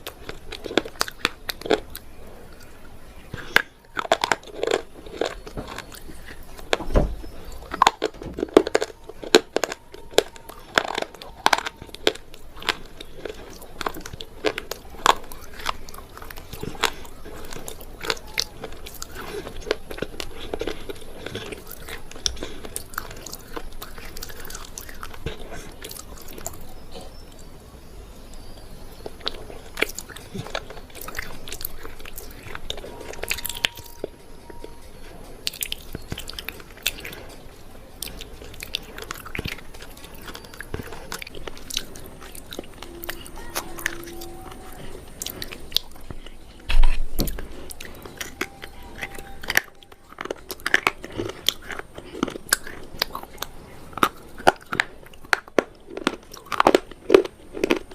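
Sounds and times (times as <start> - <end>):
crunching and chewing hard food: 0.0 - 57.9.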